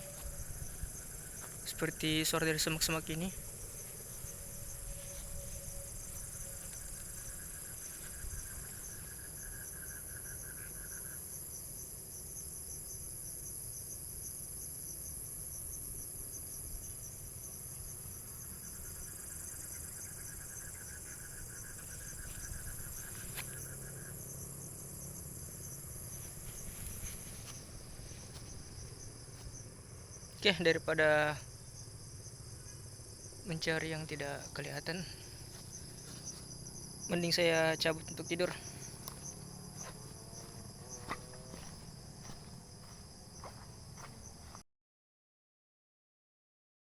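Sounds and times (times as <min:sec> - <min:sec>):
crickets chirring: 0:00.0 - 0:44.6
lower insect trill: 0:00.0 - 0:44.6.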